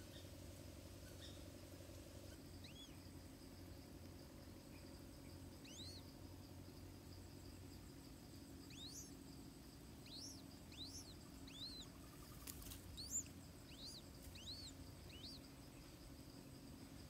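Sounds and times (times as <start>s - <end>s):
faint insect drone: 0.0s - 17.0s.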